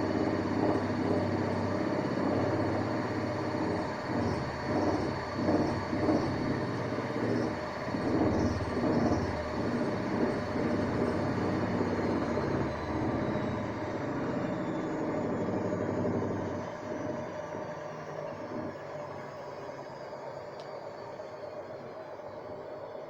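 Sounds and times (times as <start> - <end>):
high motor whine: 0.0 - 23.0
washing machine spin cycle: 0.0 - 23.0.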